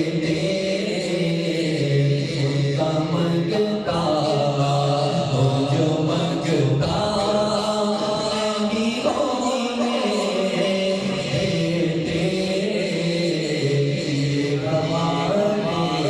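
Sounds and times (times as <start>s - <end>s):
men chanting unaccompanied: 0.0s - 16.0s.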